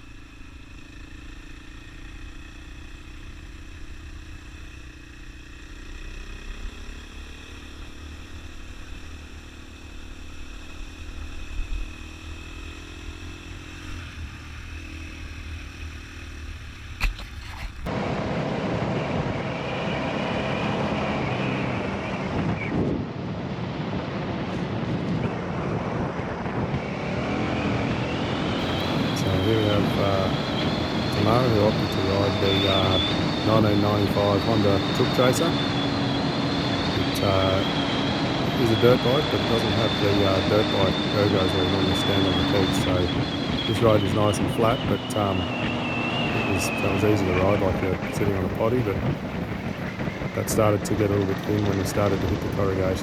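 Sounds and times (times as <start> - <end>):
dirt bike engine running: 0.0 - 18.6, 25.3 - 53.0
wind and road noise: 0.0 - 53.0.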